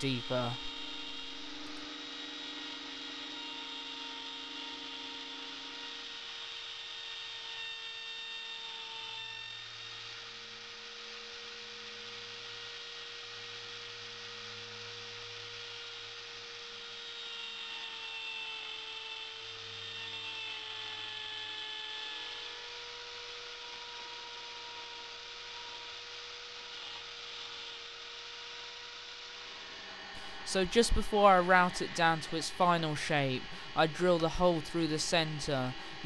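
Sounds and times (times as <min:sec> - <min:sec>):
router motor whining: 0:00.0 - 0:36.0.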